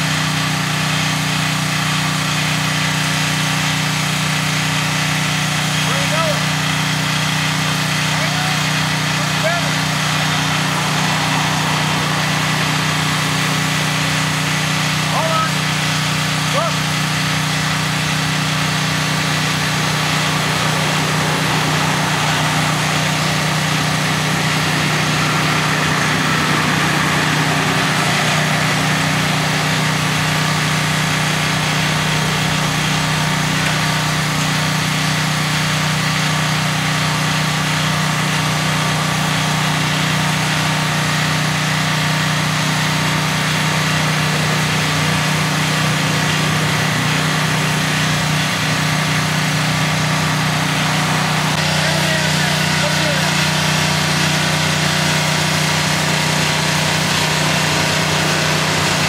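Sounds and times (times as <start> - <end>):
engine idling hum: 0.0 - 59.0.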